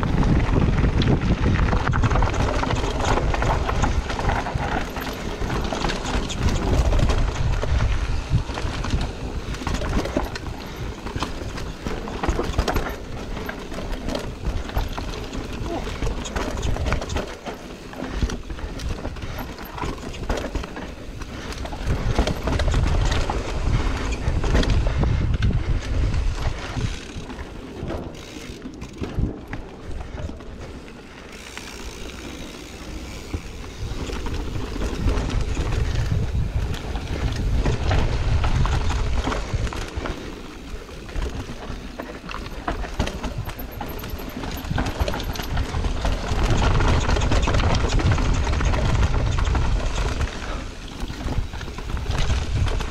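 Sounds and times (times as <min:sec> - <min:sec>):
bike rattling over bumps: 0:00.0 - 0:52.9
bike tyres on dirt and rock: 0:00.0 - 0:52.9
wind buffeting microphone: 0:00.0 - 0:52.9.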